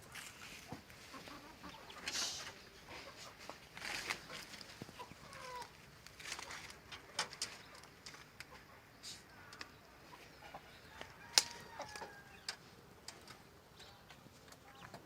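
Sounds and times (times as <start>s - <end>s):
chickens clucking: 0.2s - 15.0s.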